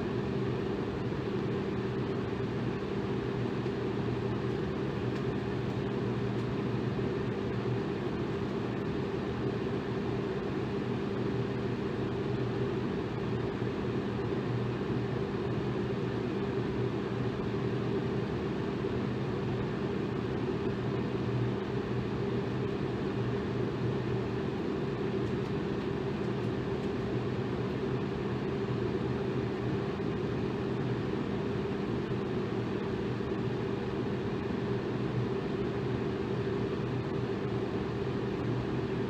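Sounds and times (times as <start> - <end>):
electric fan running: 0.0 - 39.0.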